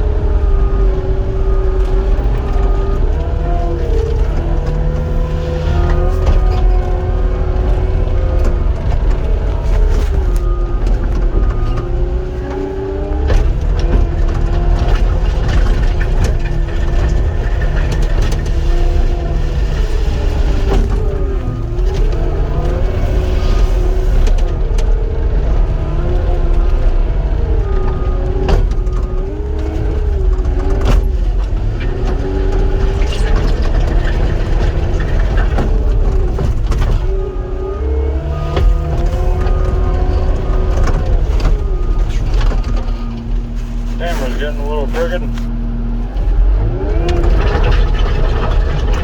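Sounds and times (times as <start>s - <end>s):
diesel engine under load: 0.0s - 49.0s.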